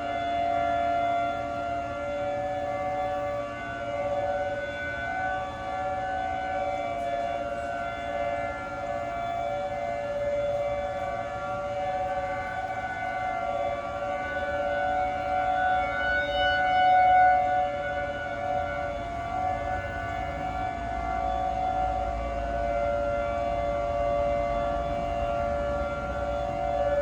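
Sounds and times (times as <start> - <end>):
two-tone warning siren: 0.0 - 27.0.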